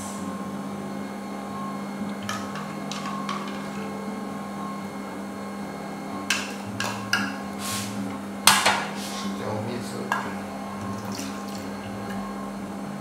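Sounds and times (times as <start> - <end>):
noodle maker running: 0.0 - 13.0.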